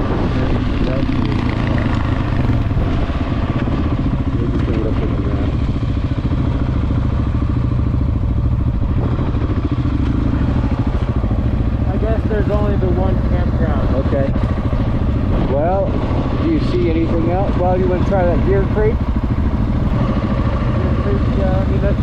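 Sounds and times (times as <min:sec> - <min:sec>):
motorcycle engine running steadily: 0:00.0 - 0:22.0.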